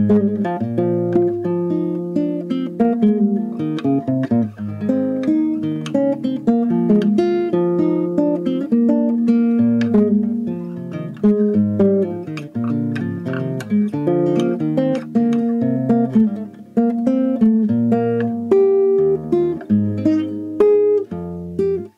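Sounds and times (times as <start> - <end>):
acoustic guitar playing: 0.0 - 21.9.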